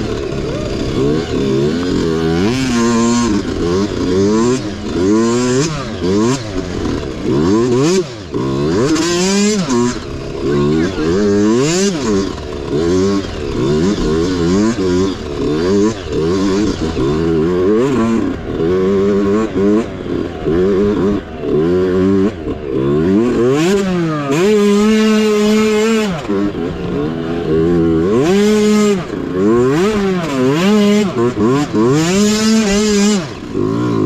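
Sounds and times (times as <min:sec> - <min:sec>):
small engine revving: 0:00.0 - 0:34.0.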